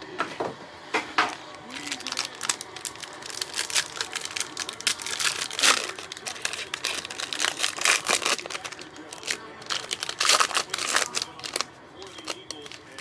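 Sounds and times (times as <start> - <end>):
packaging crinkling and rustling: 1.2 - 13.0.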